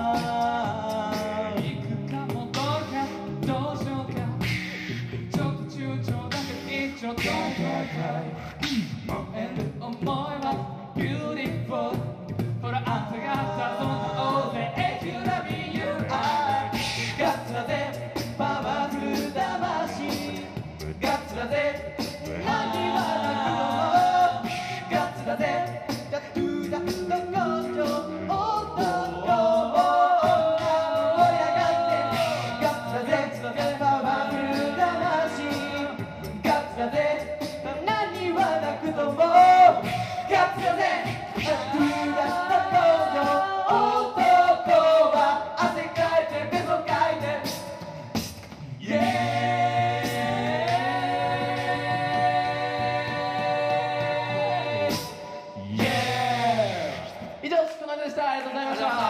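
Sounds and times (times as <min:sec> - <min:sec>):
male a cappella group singing: 0:00.0 - 0:59.0
vocal percussion beat: 0:00.0 - 0:59.0.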